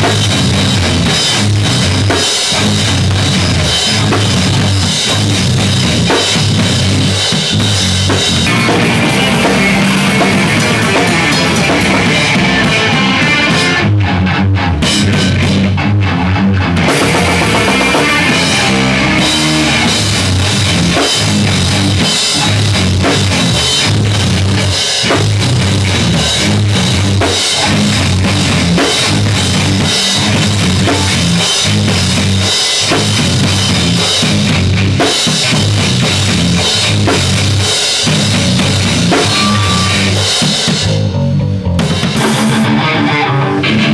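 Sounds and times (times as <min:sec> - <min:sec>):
amplified electric guitars: 0:00.0 - 0:43.9
drum kit beat: 0:00.0 - 0:43.9
rock band playing: 0:00.0 - 0:43.9.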